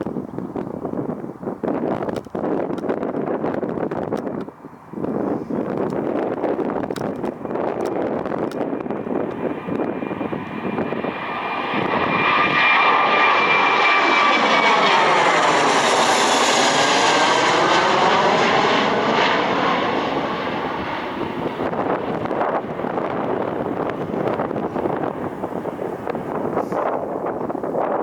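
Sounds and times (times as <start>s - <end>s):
jet engine whine: 0.0s - 28.0s
airliner taking off: 0.1s - 28.0s.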